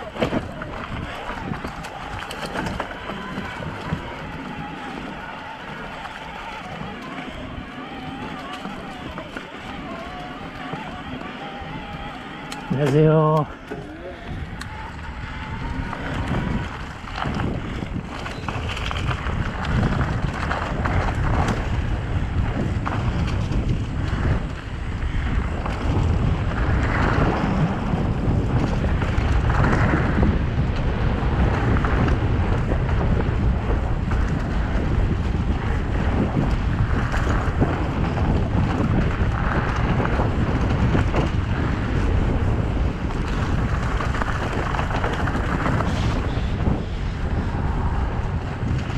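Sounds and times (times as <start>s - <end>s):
bike tyres rumbling on dirt: 0.0s - 48.9s
wind buffeting microphone: 0.0s - 48.9s.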